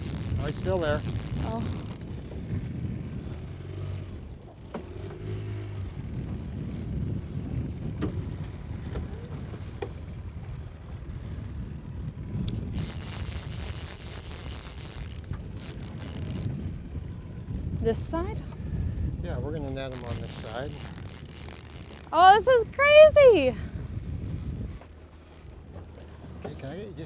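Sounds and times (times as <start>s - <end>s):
fishing reel drag buzzing: 0.0s - 4.4s, 5.0s - 10.2s, 10.8s - 18.2s, 19.6s - 26.0s.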